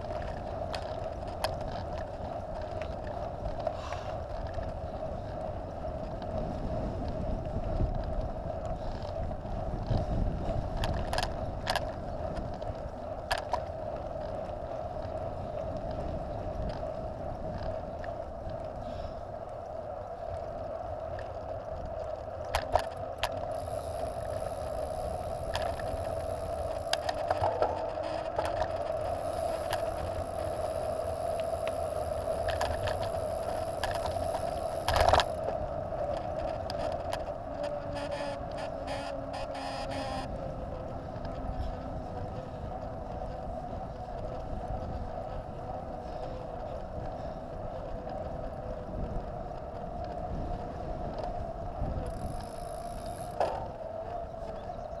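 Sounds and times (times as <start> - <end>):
bike clicks and rattles: 0.0 - 55.0
bike rolling buzz: 0.0 - 55.0
wind rumble on microphone: 0.0 - 55.0.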